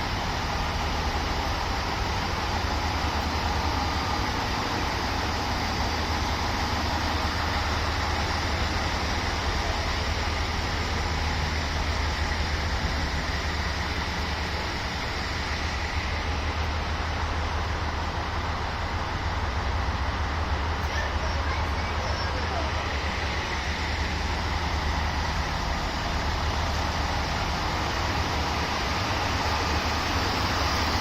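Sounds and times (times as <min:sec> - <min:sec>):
diesel railcar idling: 0:00.0 - 0:31.0.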